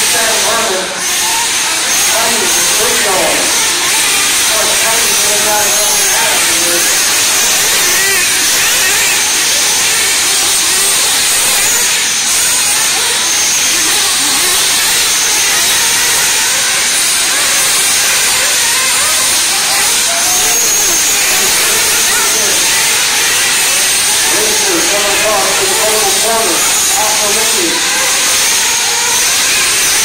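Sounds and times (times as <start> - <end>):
rc cars racing with high whine: 0.0 - 30.0.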